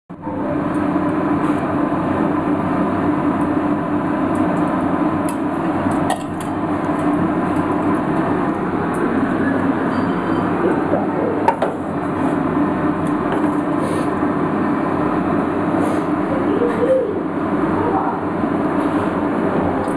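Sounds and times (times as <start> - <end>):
machine hum and rumble: 0.1 - 19.9.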